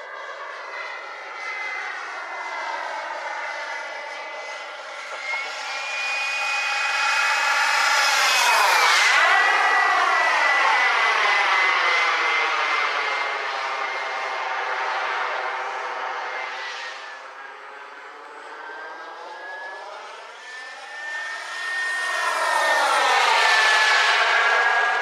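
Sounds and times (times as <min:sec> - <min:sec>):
model jet turbine whining: 0:00.0 - 0:25.0.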